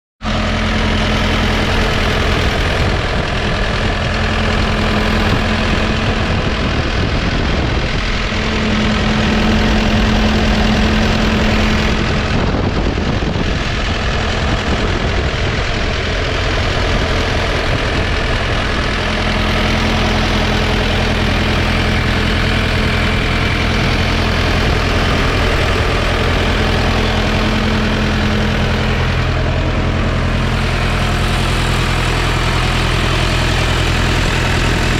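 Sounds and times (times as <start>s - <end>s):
diesel engine idling: 0.2s - 34.9s
steady tone: 1.0s - 34.9s.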